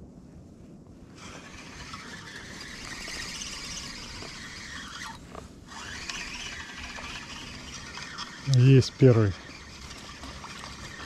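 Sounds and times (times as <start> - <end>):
fishing reel whirring: 1.2 - 11.0.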